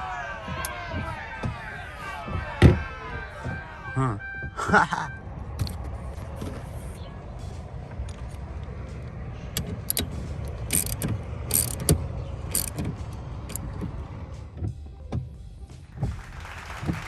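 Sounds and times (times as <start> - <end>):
windshield wipers clicking and knocking: 0.0 - 7.1, 7.9 - 16.2.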